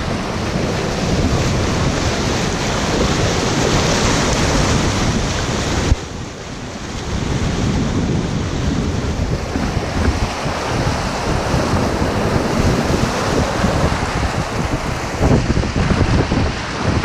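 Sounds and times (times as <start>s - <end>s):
rushing whitewater: 0.0s - 17.0s
wind buffeting microphone: 0.0s - 17.0s.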